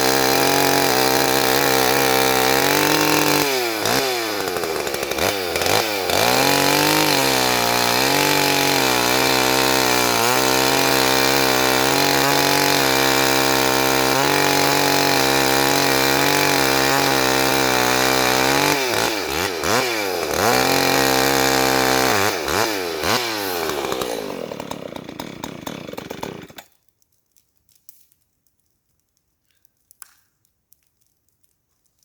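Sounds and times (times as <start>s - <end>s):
chainsaw engine revving: 0.0s - 26.6s.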